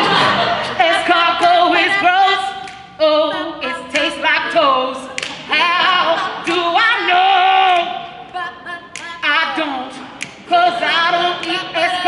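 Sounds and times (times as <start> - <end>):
voices singing a cappella: 0.0 - 12.0.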